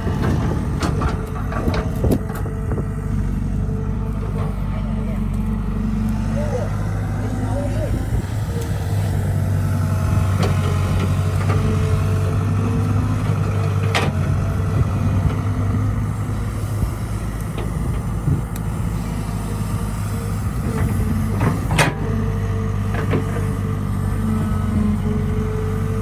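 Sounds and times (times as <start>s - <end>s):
diesel machinery engine running: 0.0s - 26.0s.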